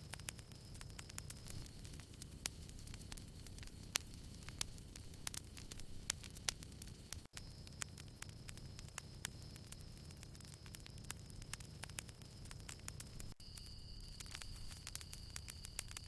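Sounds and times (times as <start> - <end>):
campfire crackling and popping: 0.0 - 16.0
low rumble of burning wood: 0.0 - 16.0.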